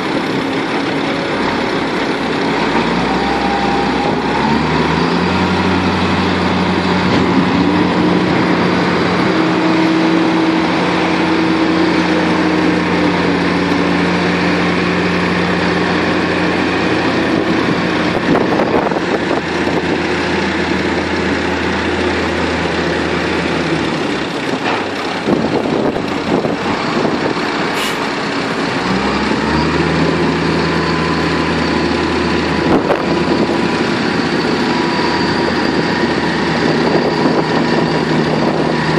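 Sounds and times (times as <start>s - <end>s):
heavy diesel engines: 0.0s - 38.9s.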